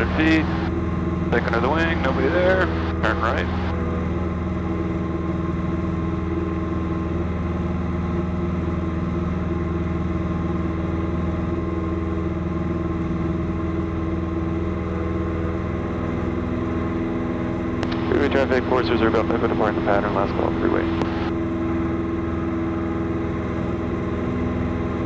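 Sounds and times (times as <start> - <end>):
light aircraft engine drone: 0.0 - 25.0.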